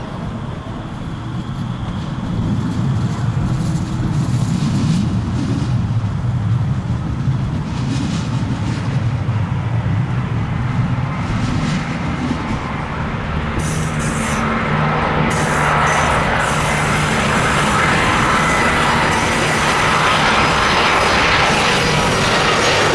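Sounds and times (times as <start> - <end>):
jet engines rumbling: 0.0 - 22.9.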